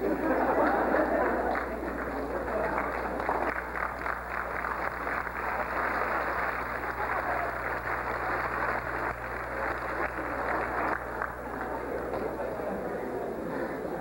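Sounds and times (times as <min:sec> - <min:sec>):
audience applauding: 0:00.0 - 0:12.4
low steady hum: 0:00.0 - 0:14.0.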